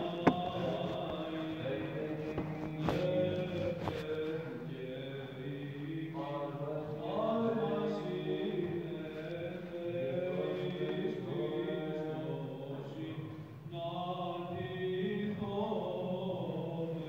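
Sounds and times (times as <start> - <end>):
men chanting over a held drone: 0.0 - 17.0.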